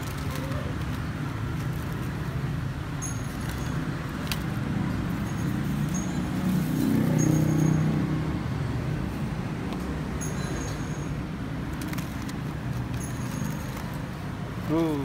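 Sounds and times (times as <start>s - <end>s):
roadside traffic noise: 0.0s - 15.0s.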